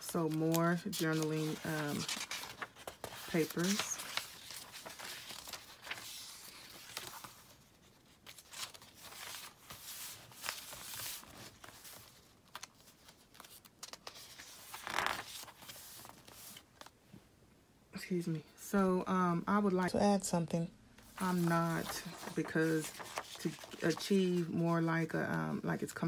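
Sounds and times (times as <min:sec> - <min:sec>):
paper pages rustling and crinkling: 0:00.0 - 0:16.9, 0:21.0 - 0:25.1.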